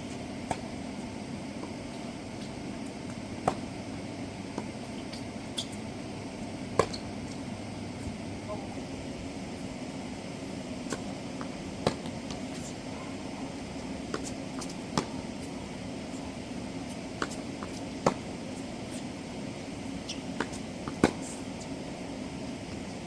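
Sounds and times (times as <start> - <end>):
background hum: 0.0 - 23.0.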